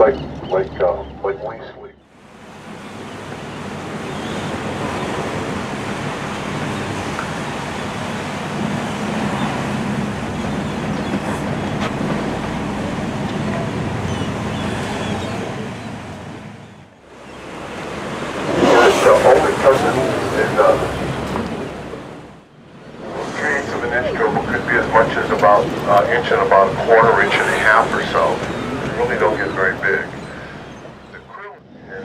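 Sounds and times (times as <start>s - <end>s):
sea waves: 0.0s - 32.0s
wind: 0.0s - 32.0s.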